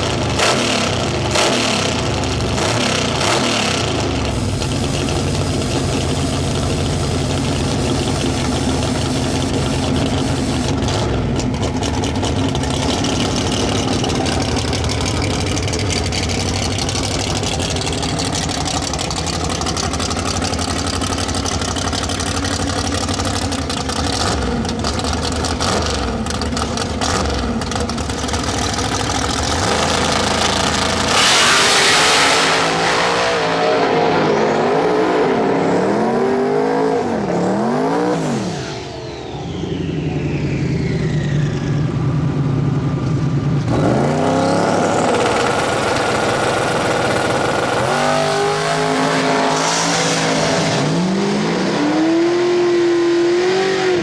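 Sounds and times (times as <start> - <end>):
loud engine burst: 0.0 - 19.0, 24.1 - 43.0, 43.7 - 53.0
drag race car engines revving: 0.0 - 54.0.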